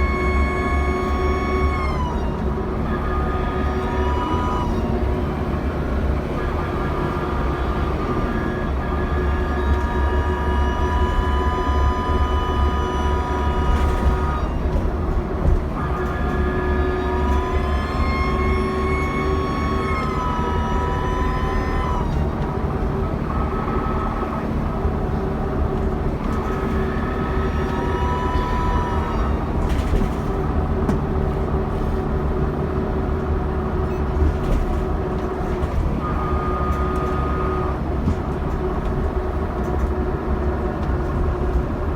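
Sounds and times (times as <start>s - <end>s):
high turbo whine: 0.0s - 41.8s
diesel bus engine rumble: 0.0s - 41.9s.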